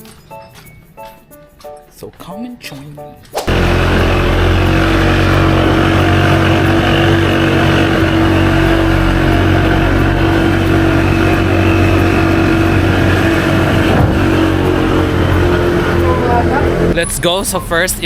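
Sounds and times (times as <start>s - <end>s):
road and wind rush: 3.4s - 18.0s
vehicle engine hum: 3.5s - 18.0s.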